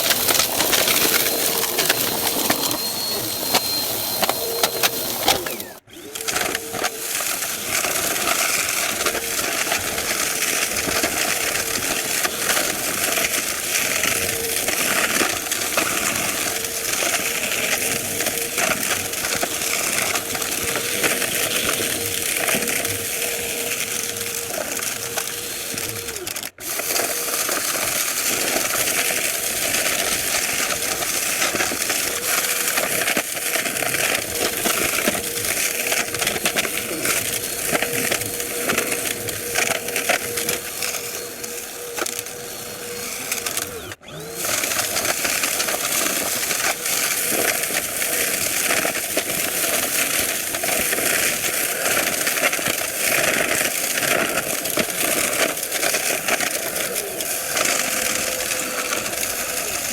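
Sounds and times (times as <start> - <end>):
vacuum cleaner motor hum: 0.0 - 59.9.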